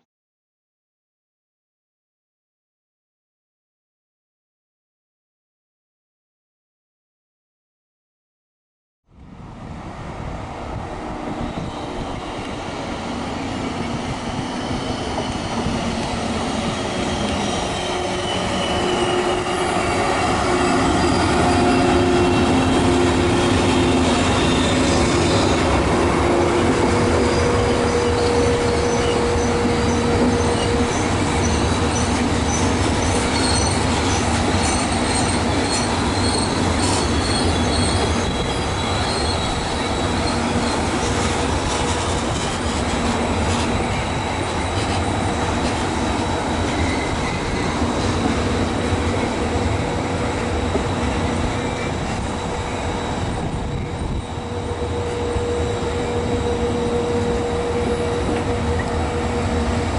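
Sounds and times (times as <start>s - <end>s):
electric train passing: 9.2s - 59.9s
train wheels squealing: 11.4s - 59.9s.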